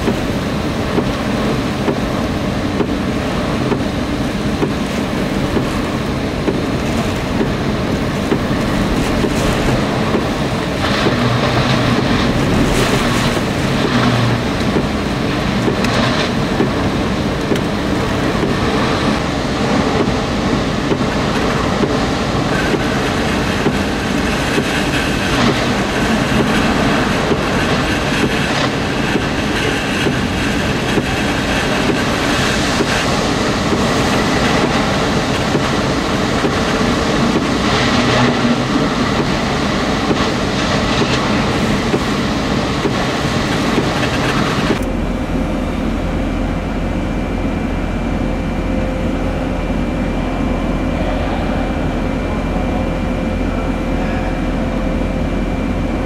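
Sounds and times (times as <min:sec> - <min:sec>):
wind and rain against vehicle: 0:00.0 - 0:54.0
low hum: 0:00.0 - 0:56.0.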